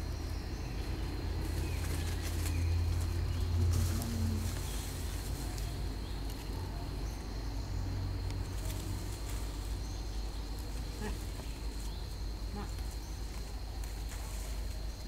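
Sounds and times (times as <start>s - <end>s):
constant low rumble: 0.0s - 15.0s
high insect drone: 0.0s - 15.0s.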